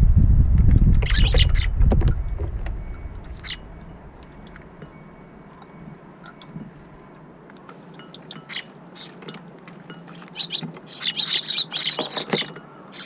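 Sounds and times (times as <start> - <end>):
birds pecking at feed: 0.6 - 13.0
sparrows chirping: 1.0 - 13.0.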